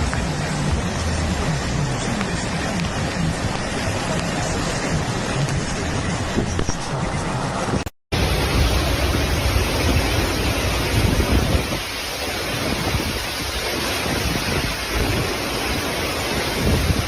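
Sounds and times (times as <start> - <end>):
wind buffeting microphone: 2.2 - 17.0.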